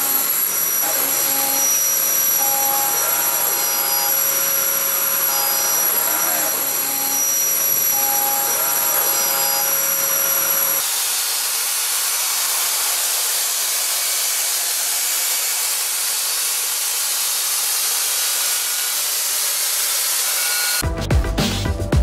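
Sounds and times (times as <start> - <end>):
milling machine whine: 0.0 - 20.8.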